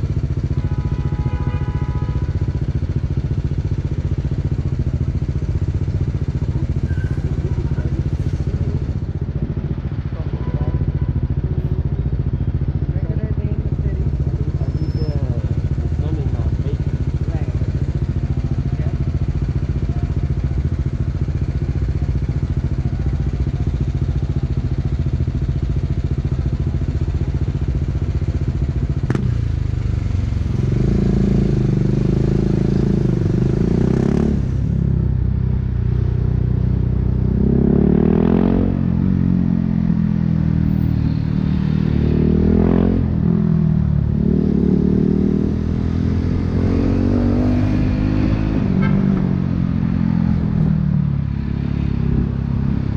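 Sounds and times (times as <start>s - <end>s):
motorcycle engine: 0.0s - 52.9s.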